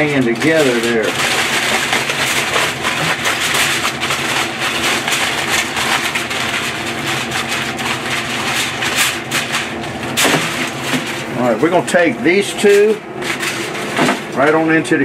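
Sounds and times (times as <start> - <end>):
foil crinkling: 0.0 - 14.8.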